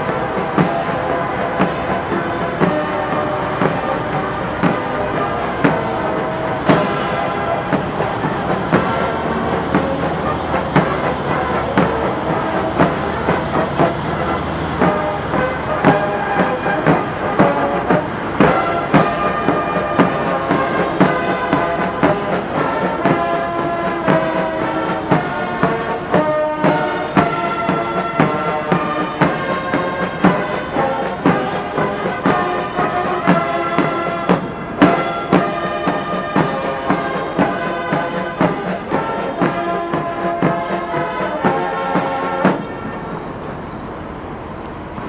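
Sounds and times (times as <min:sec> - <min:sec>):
brass band playing a march: 0:00.0 - 0:45.0.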